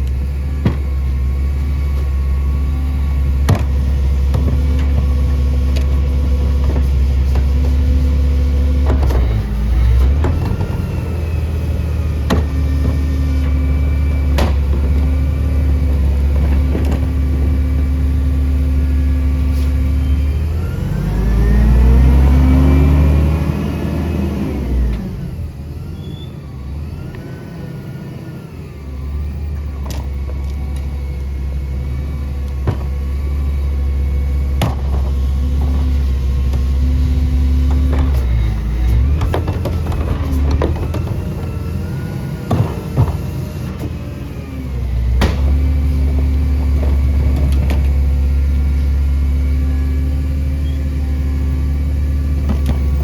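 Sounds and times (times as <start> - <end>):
garbage truck engine running: 0.0 - 53.0.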